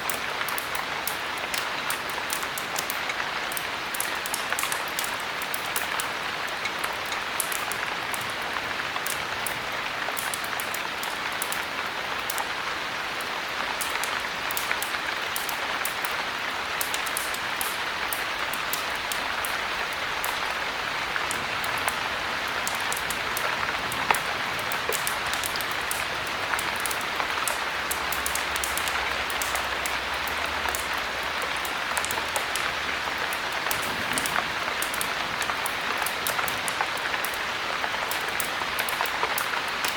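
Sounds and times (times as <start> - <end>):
heavy rain: 0.0 - 39.9
sharp high ticks and crackles: 0.0 - 39.9.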